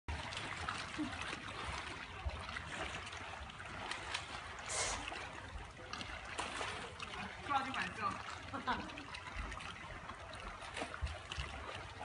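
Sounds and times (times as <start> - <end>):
shallow water sloshing and splashing: 0.1 - 12.0.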